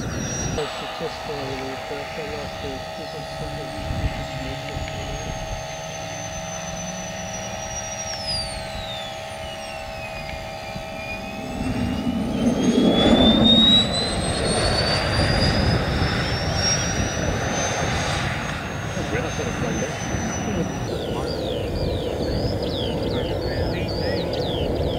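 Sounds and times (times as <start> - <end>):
model jet turbine whine: 0.0 - 24.9.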